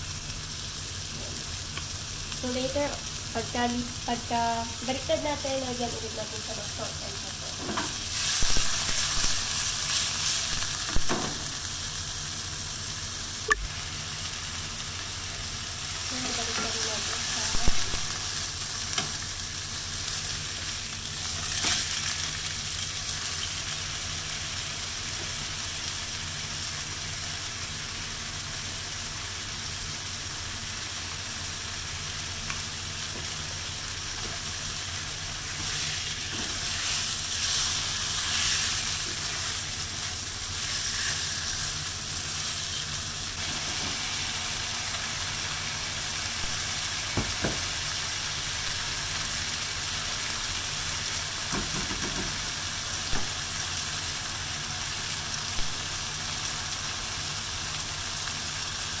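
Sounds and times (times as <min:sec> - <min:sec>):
steak sizzling in frying pan: 0:00.0 - 0:59.0.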